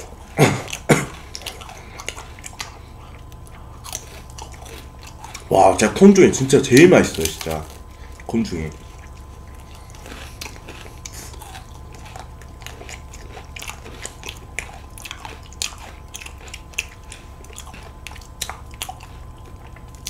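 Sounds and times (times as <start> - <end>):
crunchy chewing of ice cream cones: 0.0 - 20.0
faint steady hum: 0.0 - 20.0.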